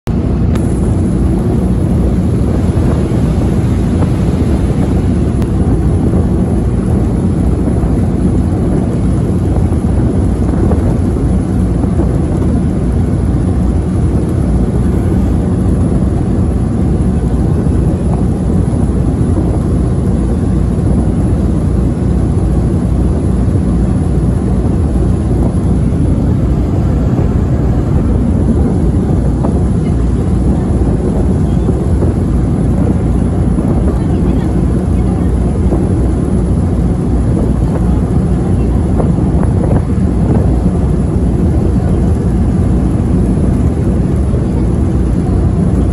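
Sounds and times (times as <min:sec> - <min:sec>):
ferry engines rumbling: 0:00.0 - 0:45.9.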